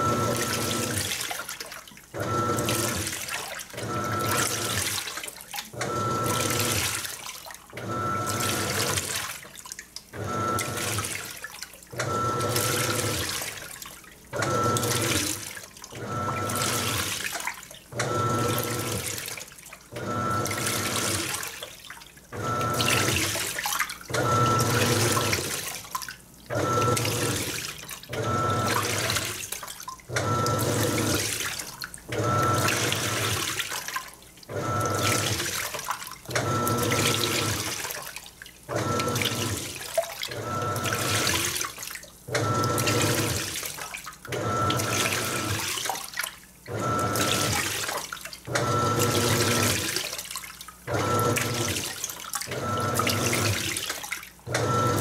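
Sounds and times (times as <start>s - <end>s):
washing machine agitating: 0.0s - 55.0s
water sloshing: 0.0s - 55.0s.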